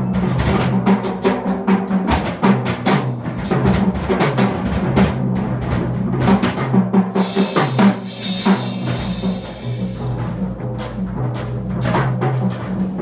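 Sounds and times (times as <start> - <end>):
double bass notes: 0.0 - 13.0
drum kit played fast: 0.0 - 13.0.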